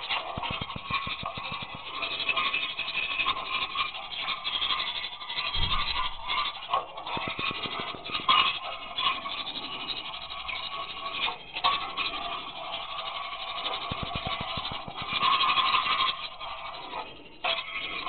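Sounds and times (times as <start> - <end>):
rapid clicks: 0.0 - 18.0.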